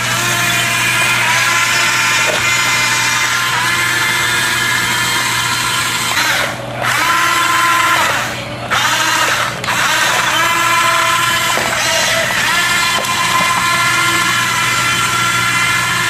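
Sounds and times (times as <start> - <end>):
electric gear motors whining: 0.0 - 16.0.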